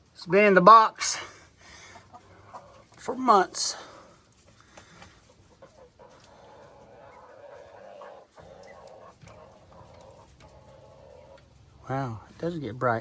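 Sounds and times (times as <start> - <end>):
chickens clucking: 1.0 - 13.0.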